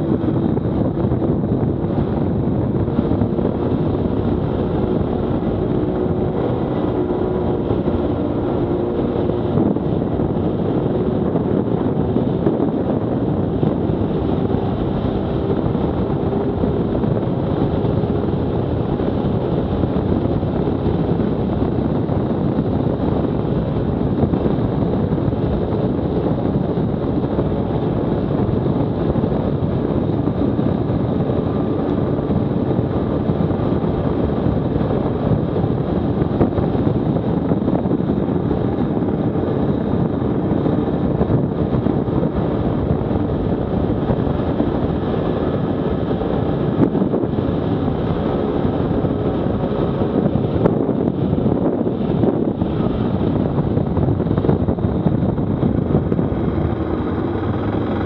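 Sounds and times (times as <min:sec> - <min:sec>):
atv engine running: 0:00.0 - 0:58.0
wind buffeting microphone: 0:00.0 - 0:58.0.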